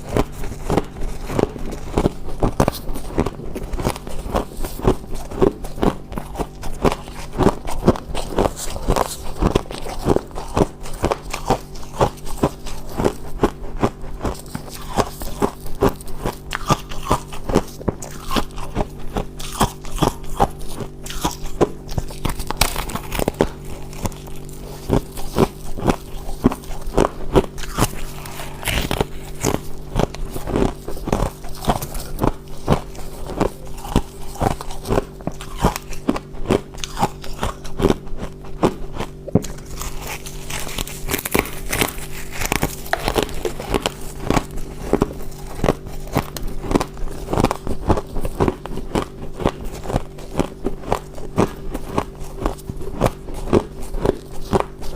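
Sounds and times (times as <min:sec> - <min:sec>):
ice being chewed: 0:00.0 - 0:54.9
steady low hum: 0:00.0 - 0:54.9.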